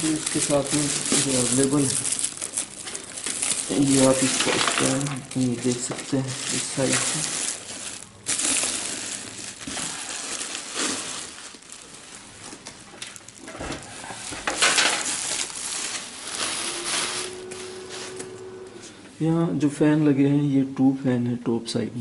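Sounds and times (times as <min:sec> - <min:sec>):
plastic wrapping crinkling: 0:00.0 - 0:18.6.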